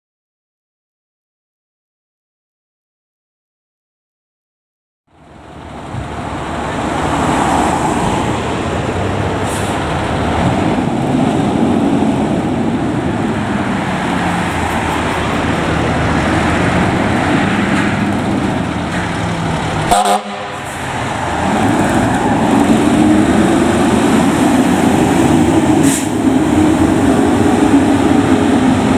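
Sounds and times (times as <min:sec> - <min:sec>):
heavy vehicle engine running: 0:05.1 - 0:28.9
road traffic noise: 0:05.1 - 0:28.9.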